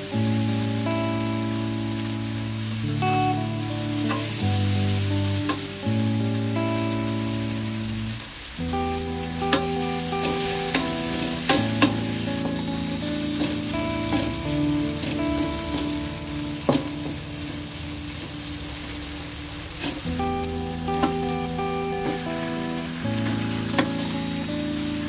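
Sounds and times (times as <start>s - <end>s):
soft background tune: 0.0s - 25.0s
paste sizzling in oil: 0.1s - 25.0s.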